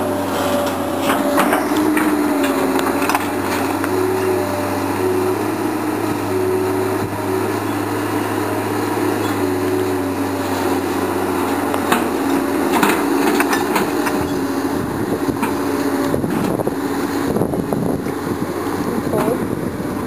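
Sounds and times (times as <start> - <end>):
excavator diesel engine running: 0.0 - 20.0
higher engine tone: 0.0 - 20.0.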